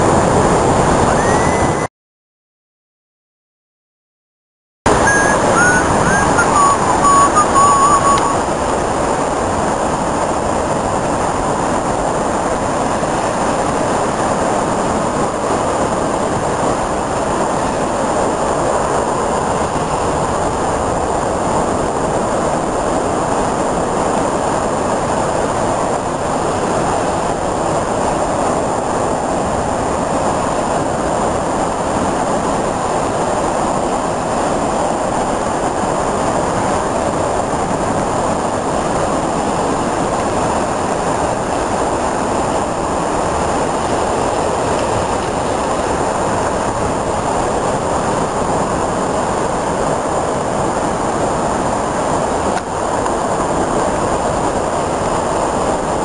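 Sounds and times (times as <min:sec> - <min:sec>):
wind: 0:00.0 - 0:01.9, 0:04.9 - 0:56.0
rough sea breaking on seawall: 0:08.4 - 0:56.0.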